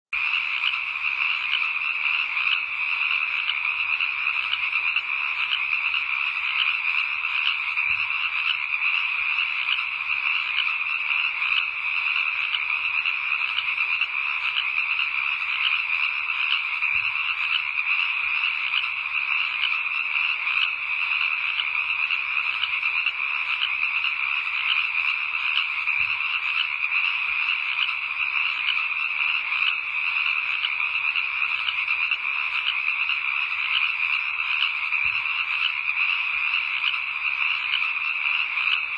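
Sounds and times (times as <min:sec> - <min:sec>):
frogs trilling in chorus: 0:00.2 - 0:38.9.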